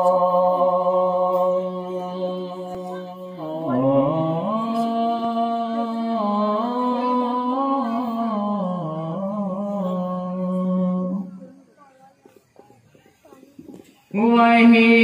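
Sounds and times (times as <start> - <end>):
man singing: 0.0 - 11.5, 14.1 - 15.0.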